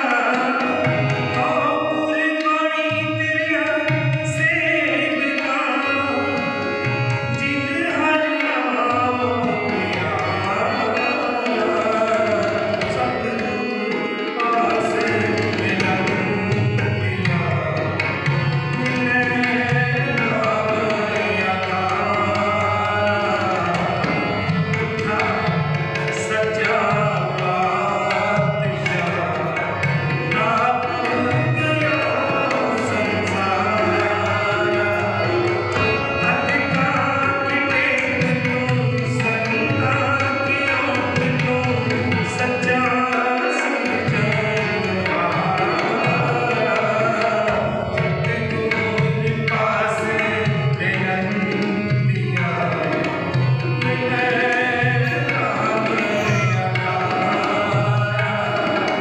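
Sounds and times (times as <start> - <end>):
harmonium chords: 0.0 - 59.0
tabla rhythm: 0.0 - 59.0.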